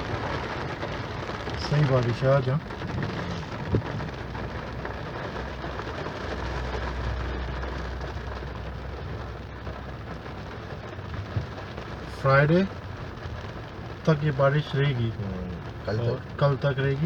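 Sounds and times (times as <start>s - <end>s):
heavy rain hissing: 0.0s - 17.0s
vehicle engine humming: 0.0s - 17.0s.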